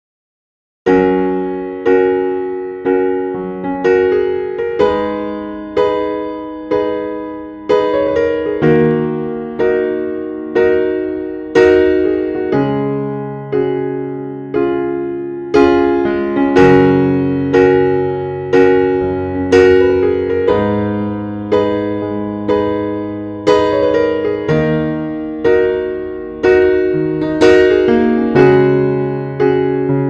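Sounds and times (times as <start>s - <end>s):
slow piano piece: 0.9s - 30.0s.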